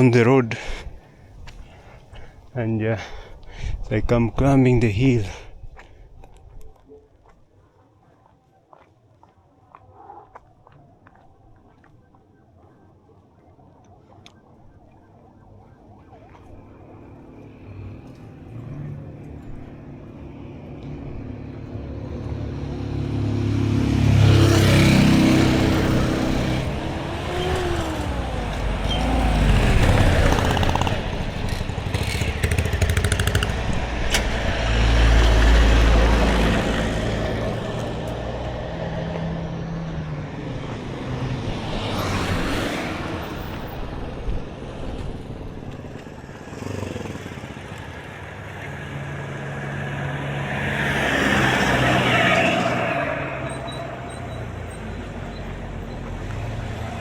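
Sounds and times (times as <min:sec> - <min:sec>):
vehicles passing by: 0:00.0 - 0:07.5, 0:09.6 - 0:57.0.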